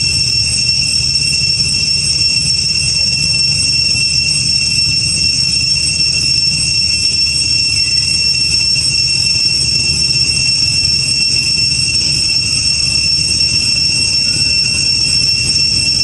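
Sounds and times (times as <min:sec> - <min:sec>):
cicada chorus drone: 0:00.0 - 0:16.0.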